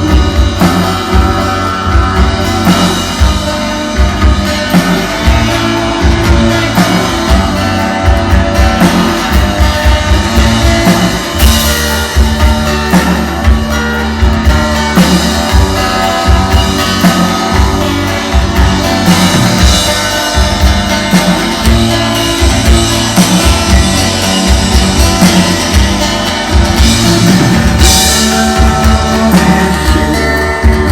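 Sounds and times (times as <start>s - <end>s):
live rock band playing: 0.0s - 30.9s.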